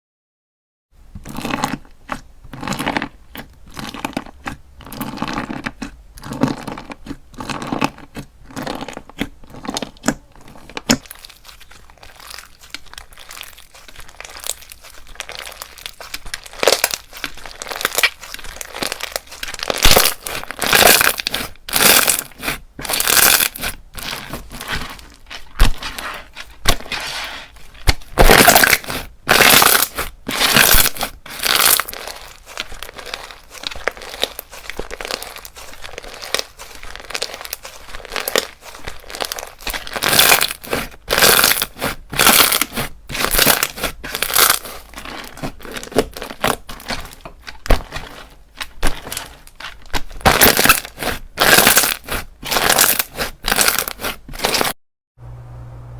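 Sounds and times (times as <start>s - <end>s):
slime squeezed by hand: 7.0s - 54.7s.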